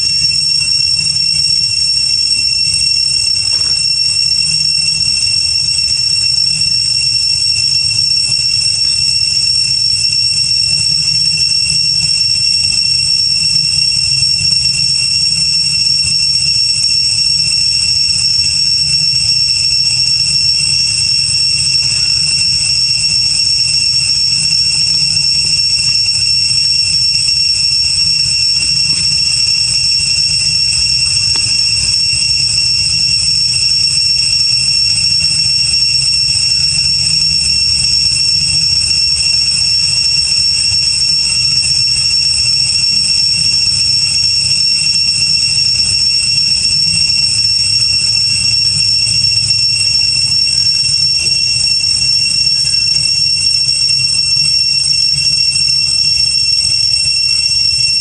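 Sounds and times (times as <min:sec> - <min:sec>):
high-pitched buzzing drone: 0:00.0 - 0:58.0.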